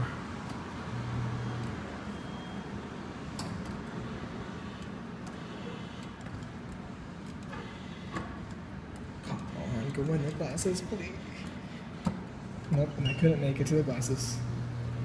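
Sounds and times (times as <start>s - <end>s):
store background noise: 0.0s - 15.0s.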